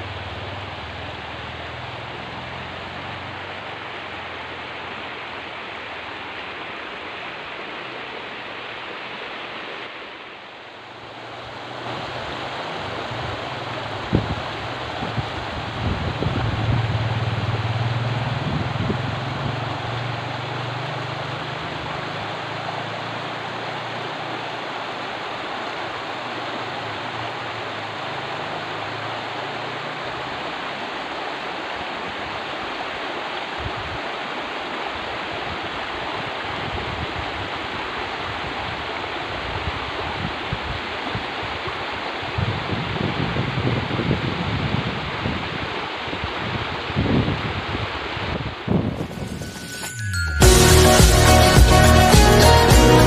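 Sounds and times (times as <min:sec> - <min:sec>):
river rushing over stones: 0:00.0 - 0:53.0.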